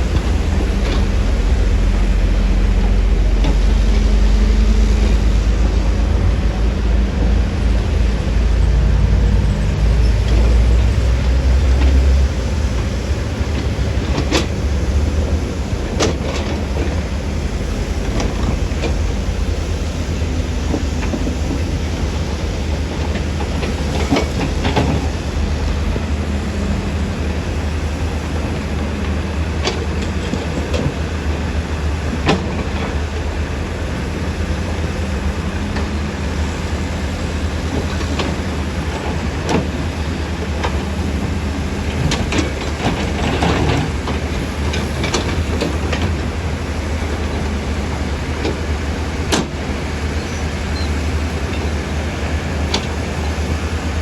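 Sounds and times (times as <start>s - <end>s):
diesel engine deep rumble: 0.0s - 54.0s.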